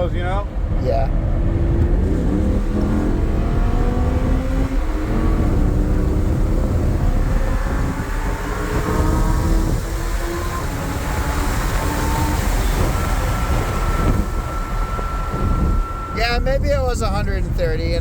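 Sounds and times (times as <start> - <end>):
car engine accelerating: 0.0 - 17.7.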